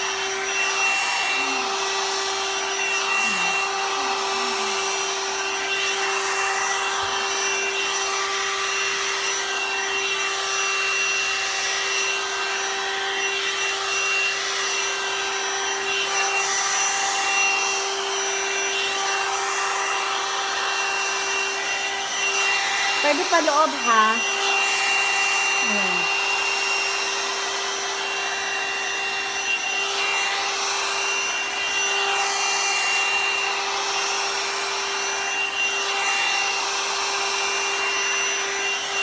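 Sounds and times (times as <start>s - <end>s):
hot air brush blowing air: 0.0s - 39.0s.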